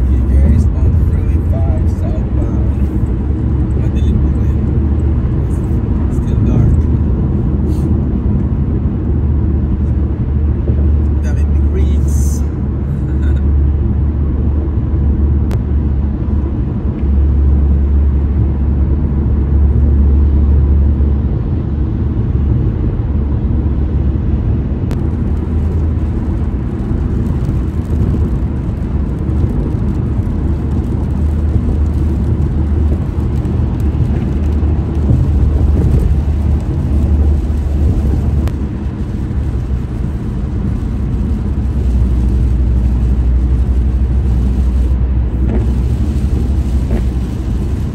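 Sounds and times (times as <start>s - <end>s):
car engine and tyres on wet road: 0.0s - 47.9s.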